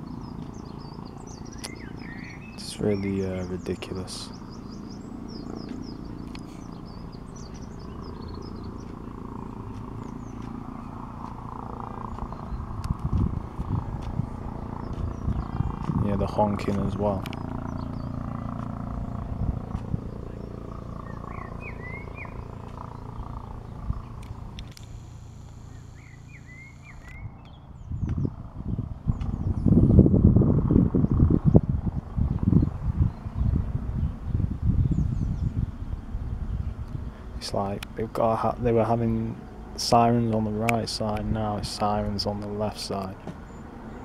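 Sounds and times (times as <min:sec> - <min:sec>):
helicopter drone: 0:00.0 - 0:44.0
small birds chirping: 0:00.0 - 0:44.0.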